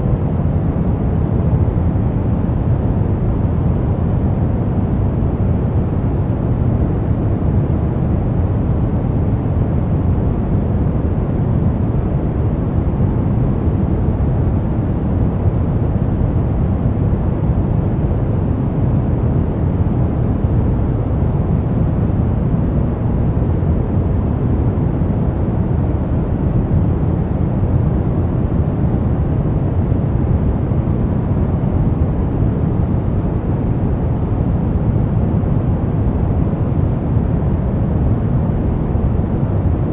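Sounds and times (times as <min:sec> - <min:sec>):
brown noise: 0:00.0 - 0:39.9.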